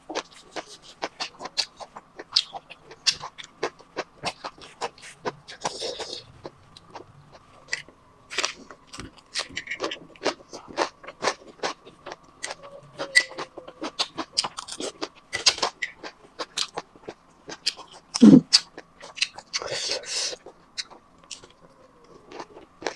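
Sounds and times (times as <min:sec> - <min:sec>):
faint steady hum: 0:00.0 - 0:22.9
person chewing: 0:00.1 - 0:22.9.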